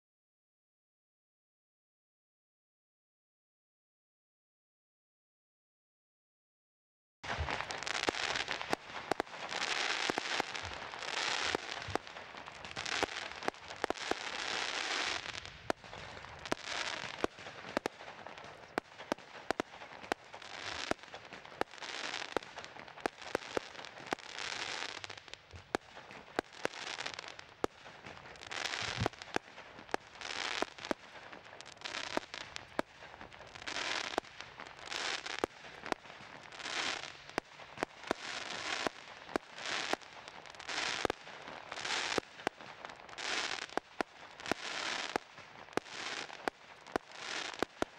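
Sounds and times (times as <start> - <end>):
firework bangs: 7.2 - 47.9
firework crackling hiss: 7.2 - 47.9.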